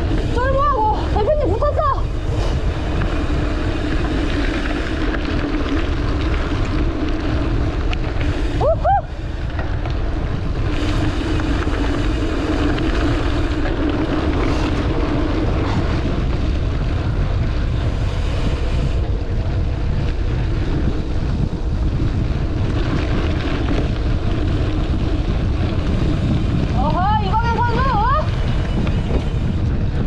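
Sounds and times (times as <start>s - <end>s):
bike tyres rumbling on dirt: 0.0s - 30.0s
wind on microphone: 0.0s - 30.0s.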